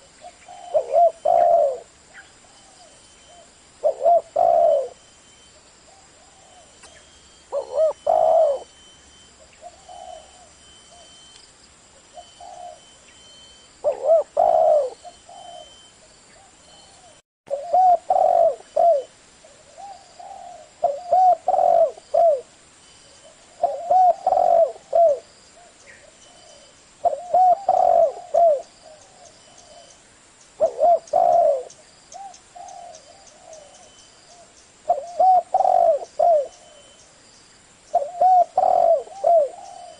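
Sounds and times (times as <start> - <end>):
dove cooing: 0.0 - 5.0, 5.9 - 8.8, 9.4 - 11.2, 12.1 - 13.0, 13.8 - 22.5, 23.1 - 30.0, 30.6 - 37.0, 37.9 - 39.9.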